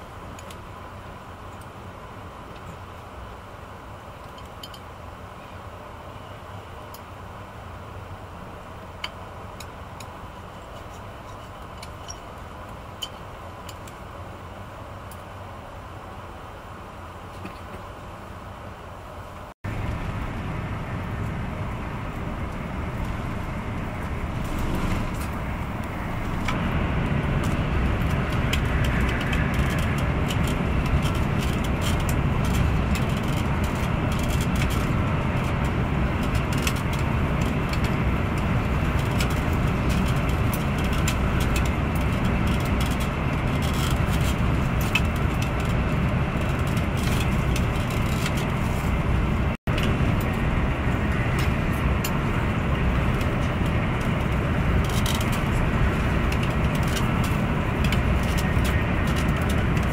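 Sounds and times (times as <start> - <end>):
high-speed train interior rumble: 0.0 - 59.9.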